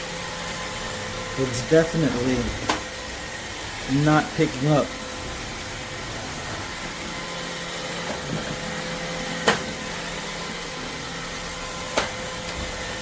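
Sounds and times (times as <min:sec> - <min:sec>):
robot vacuum humming: 0:00.0 - 0:13.0.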